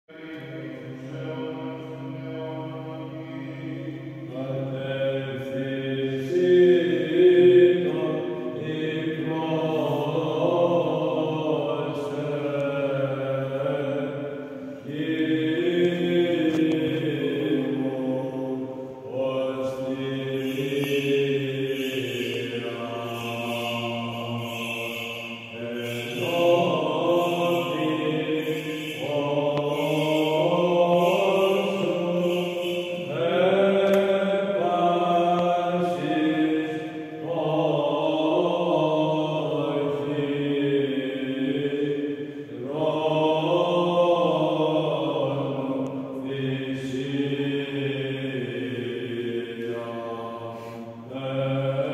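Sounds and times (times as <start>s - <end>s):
low held drone note: 0.1s - 41.7s
male group chanting: 0.1s - 51.9s.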